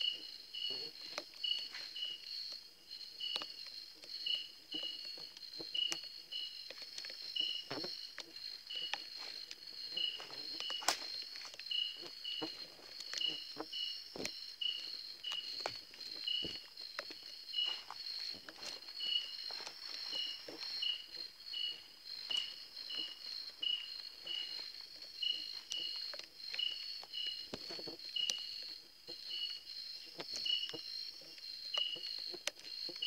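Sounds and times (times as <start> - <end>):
insect high trill: 0.0 - 33.0
insect lower chirp: 0.0 - 33.0.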